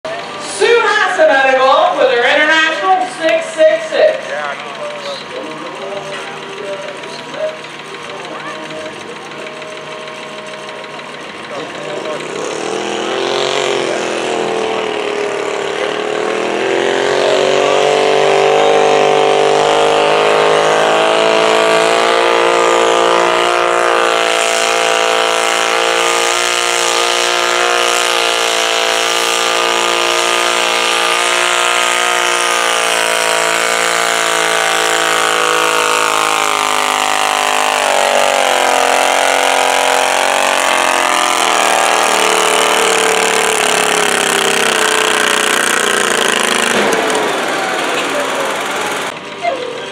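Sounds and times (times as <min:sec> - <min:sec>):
tractor engine running under load: 0:00.0 - 0:49.9.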